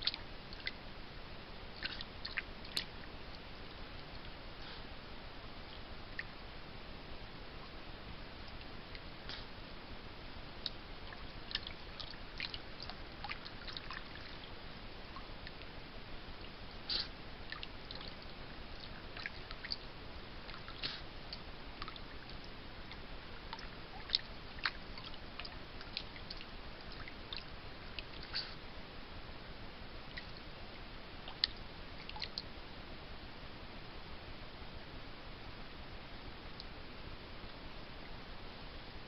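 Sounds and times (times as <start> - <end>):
microphone hiss: 0.0 - 39.0.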